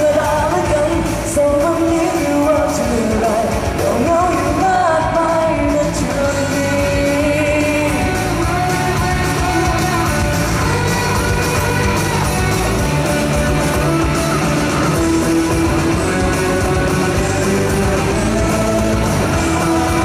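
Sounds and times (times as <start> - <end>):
bass guitar: 0.0 - 20.0
drums: 0.0 - 20.0
electric guitar: 0.0 - 20.0.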